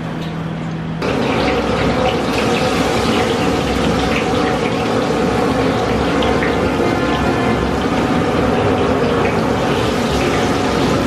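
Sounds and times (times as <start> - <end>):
oil sizzling and crackling: 0.1 - 11.0.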